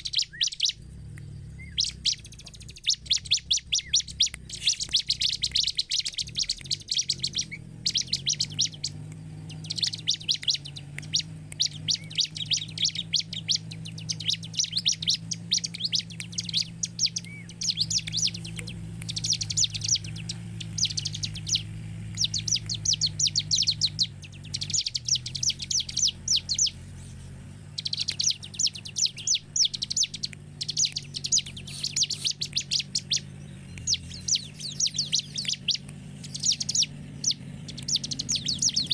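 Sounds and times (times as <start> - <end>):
bird chattering song: 0.0 - 38.9
low steady hum: 0.0 - 38.9.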